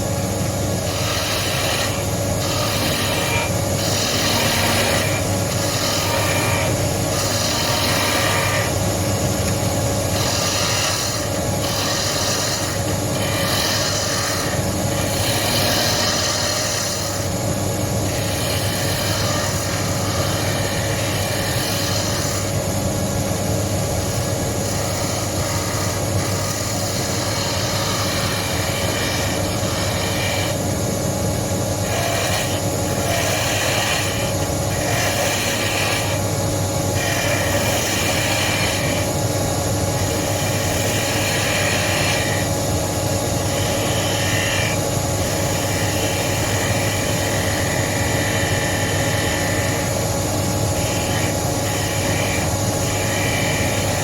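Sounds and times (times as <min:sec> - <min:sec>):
turning tool cutting wood: 0:00.0 - 0:54.0
wood lathe humming: 0:00.0 - 0:54.0.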